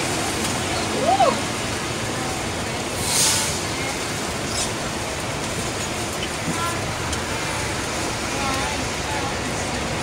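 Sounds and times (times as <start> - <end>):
heavy rain: 0.0 - 10.0
road and traffic noise: 0.0 - 10.0.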